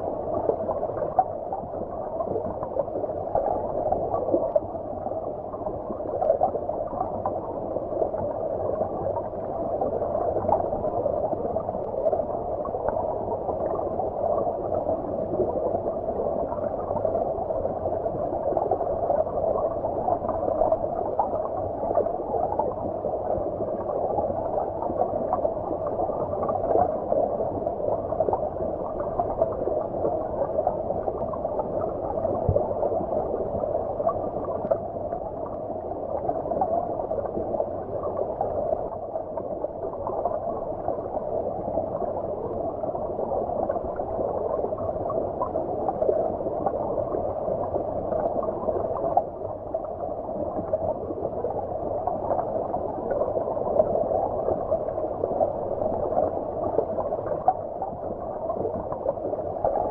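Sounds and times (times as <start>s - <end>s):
muffled underwater stream gurgling: 0.0s - 59.9s.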